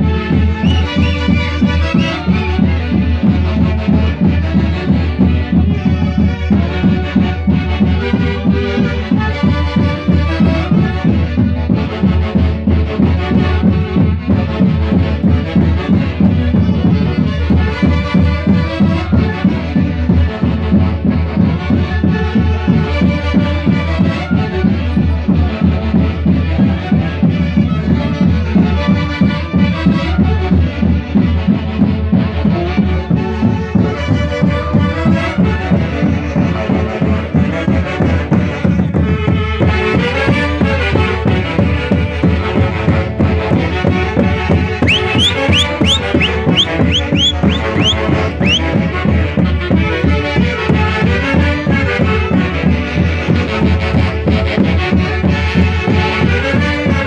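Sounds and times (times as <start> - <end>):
band playing folk music: 0.0 - 57.0.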